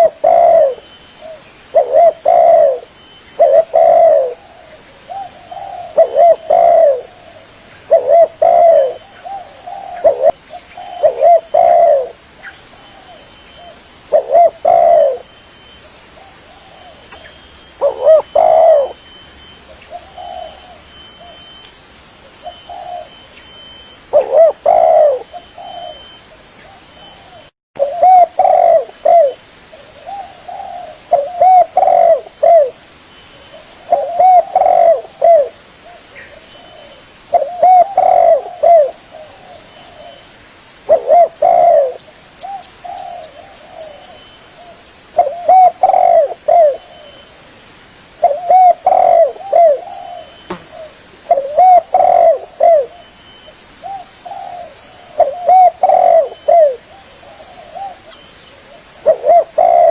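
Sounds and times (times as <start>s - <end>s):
dove cooing: 0.0s - 21.6s, 22.3s - 32.8s, 33.4s - 40.2s, 40.9s - 47.3s, 48.2s - 59.9s.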